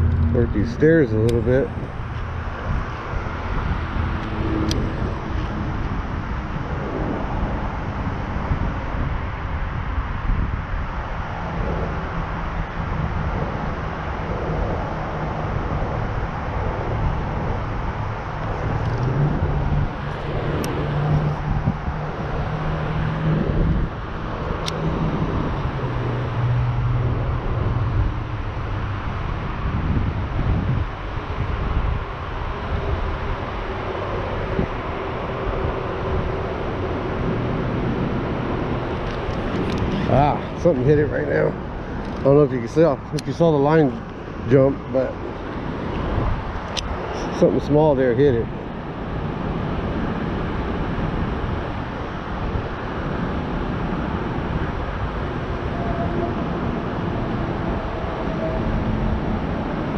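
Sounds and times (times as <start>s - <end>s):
vehicle droning past: 0.0s - 9.4s, 11.2s - 59.9s
road traffic hum: 0.0s - 59.9s
wind rumbling on microphone: 0.0s - 59.9s.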